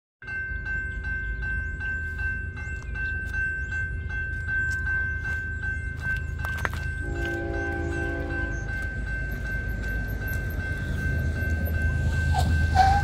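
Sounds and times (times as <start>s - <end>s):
railroad crossing bell ringing: 0.2s - 13.0s.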